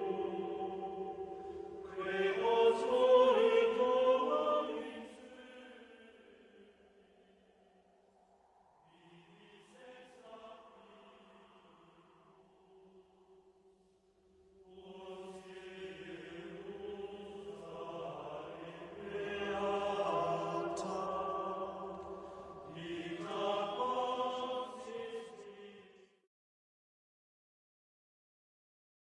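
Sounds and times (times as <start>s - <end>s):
choral chant: 0.0s - 7.6s, 8.6s - 13.4s, 14.6s - 26.2s.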